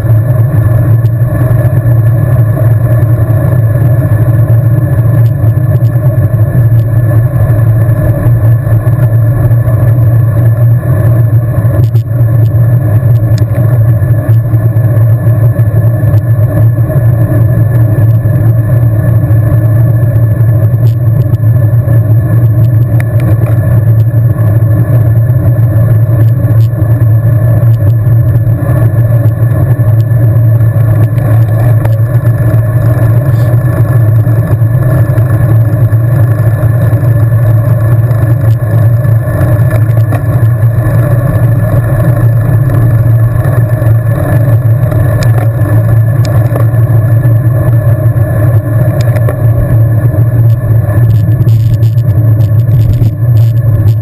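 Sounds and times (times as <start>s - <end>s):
wind and road noise rumble: 0.0s - 54.0s.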